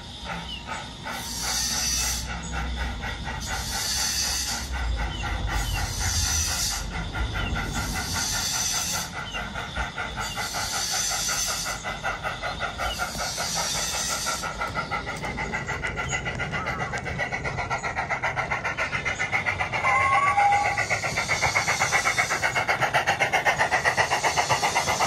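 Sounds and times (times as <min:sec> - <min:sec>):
low rumble of running train: 0:00.0 - 0:25.0
model steam locomotive chuffing: 0:00.0 - 0:25.0
steam hiss: 0:00.0 - 0:25.0.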